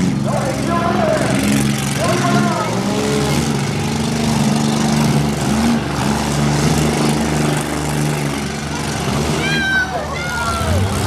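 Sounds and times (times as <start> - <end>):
car engines running and revving: 0.0 - 11.0.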